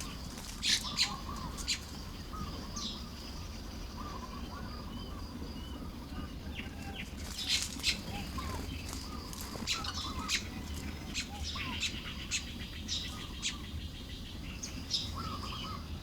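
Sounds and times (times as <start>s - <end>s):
birds soft chirps: 0.0s - 16.0s.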